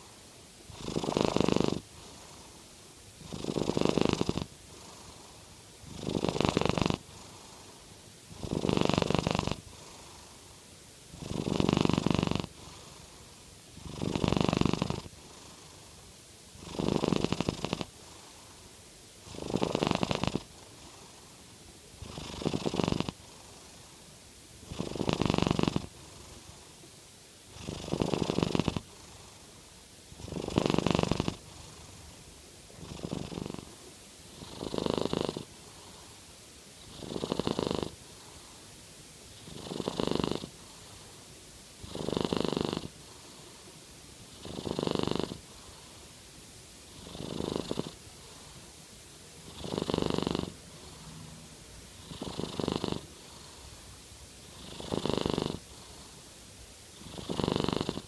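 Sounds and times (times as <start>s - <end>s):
cat purr-snoring: 0.7s - 2.6s, 3.2s - 10.5s, 11.1s - 18.6s, 19.2s - 23.7s, 24.6s - 26.7s, 27.5s - 29.5s, 30.1s - 32.1s, 32.7s - 36.2s, 36.8s - 38.5s, 39.3s - 41.2s, 41.8s - 43.6s, 44.3s - 46.0s, 46.9s - 48.7s, 49.4s - 56.2s, 56.9s - 58.0s.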